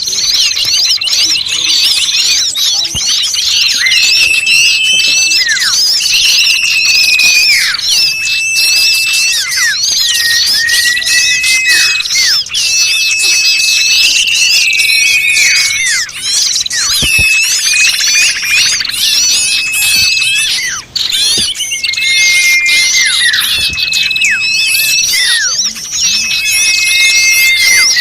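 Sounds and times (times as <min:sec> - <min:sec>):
long level bird whistles: 0:00.0 - 0:28.0
small birds chirping and chattering: 0:00.0 - 0:28.0.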